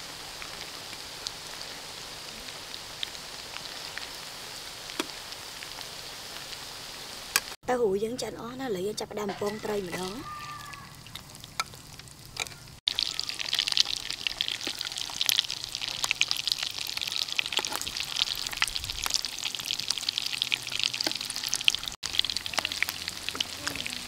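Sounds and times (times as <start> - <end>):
fish sizzling in hot oil: 0.0 - 7.6, 9.7 - 24.0.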